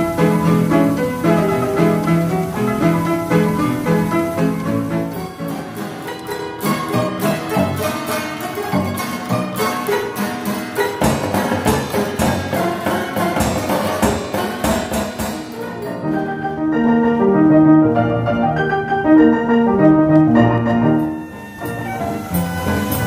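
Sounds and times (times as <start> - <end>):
held piano notes: 0.0 - 23.0
mechanical piano with drum and cymbal: 0.0 - 23.0.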